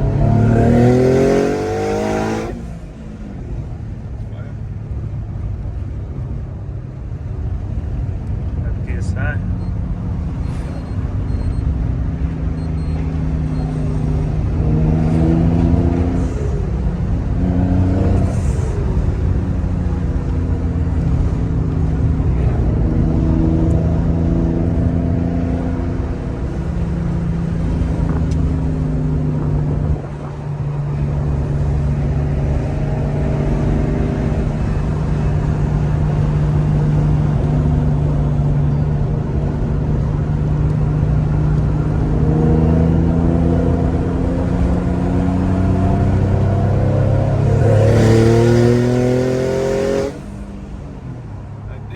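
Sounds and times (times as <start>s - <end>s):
car engine revving: 0.0s - 6.4s, 7.0s - 51.9s.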